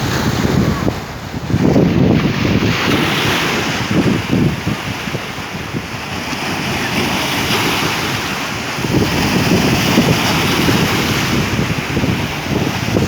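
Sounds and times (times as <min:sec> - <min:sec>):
sea waves breaking: 0:00.0 - 0:13.0
wind buffeting microphone: 0:00.0 - 0:13.0.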